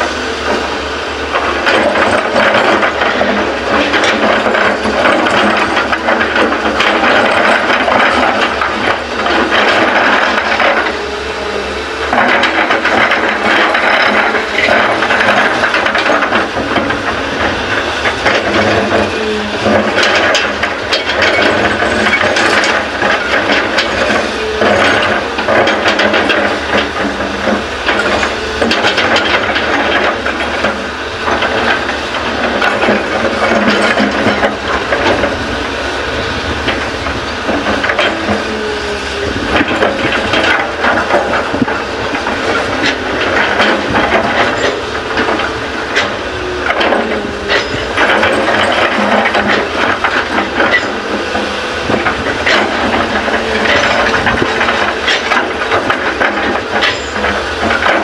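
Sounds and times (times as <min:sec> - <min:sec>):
soil clattering and knocking: 0:00.0 - 0:11.1, 0:12.0 - 0:58.0
excavator machine noise: 0:00.0 - 0:58.0.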